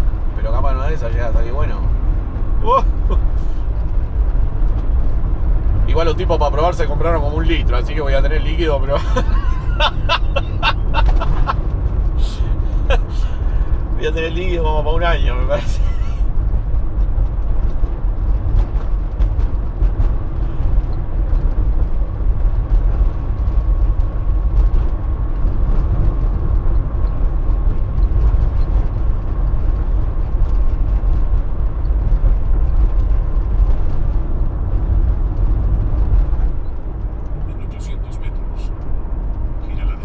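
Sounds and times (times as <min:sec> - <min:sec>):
engine and road rumble in van: 0:00.0 - 0:40.0.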